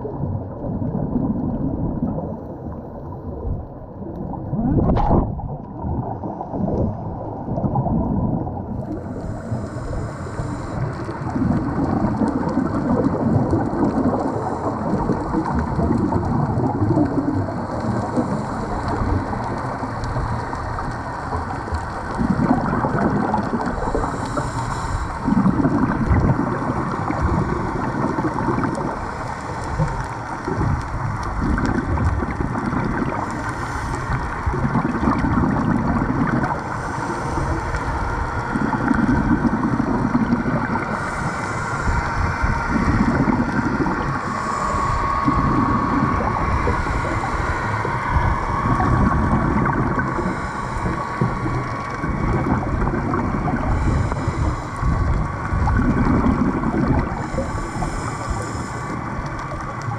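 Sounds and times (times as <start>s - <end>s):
exhaled bubbles gurgling: 0.0s - 59.9s
underwater hiss: 8.4s - 59.9s.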